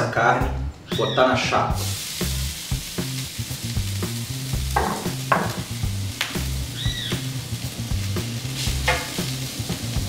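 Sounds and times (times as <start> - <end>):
background music: 0.0 - 10.0
meat sizzling on griddle: 1.8 - 10.0.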